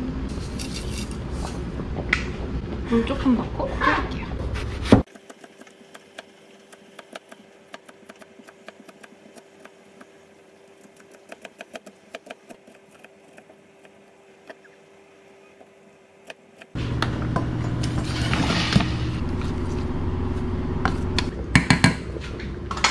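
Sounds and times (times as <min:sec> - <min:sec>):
steady hum: 0:04.2 - 0:22.9.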